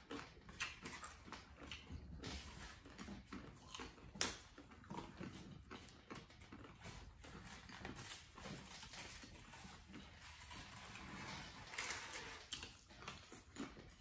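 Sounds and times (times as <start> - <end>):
chewing and lip-smacking: 0.0 - 14.0
crunch of tortilla chips: 0.0 - 14.0.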